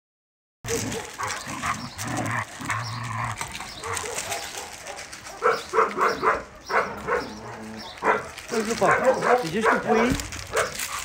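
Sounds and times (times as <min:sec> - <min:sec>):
dogs growling: 0:00.7 - 0:11.0.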